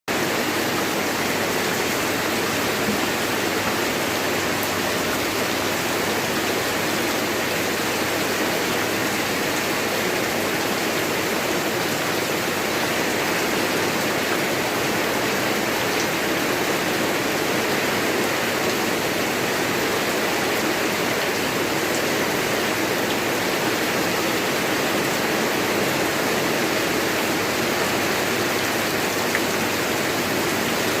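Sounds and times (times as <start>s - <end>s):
rain falling steadily: 0.1s - 31.0s.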